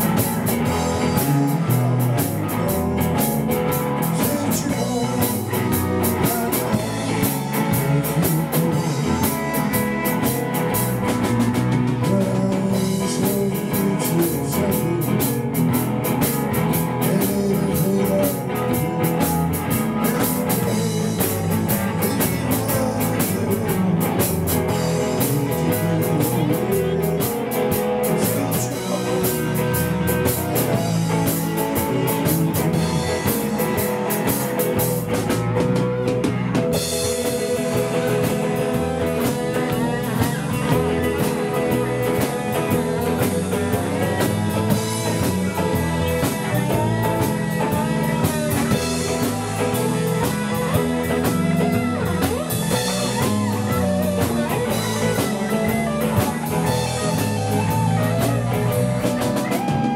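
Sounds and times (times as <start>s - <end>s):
drum kit with cymbals: 0.0s - 59.9s
electric bass: 0.0s - 59.9s
electric guitars: 0.0s - 59.9s.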